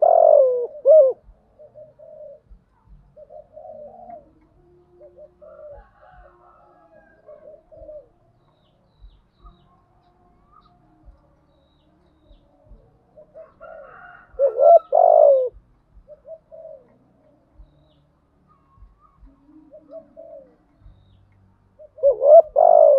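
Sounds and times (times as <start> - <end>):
dove cooing: 0.0 - 9.6, 12.3 - 17.9, 18.6 - 21.1, 21.8 - 22.9.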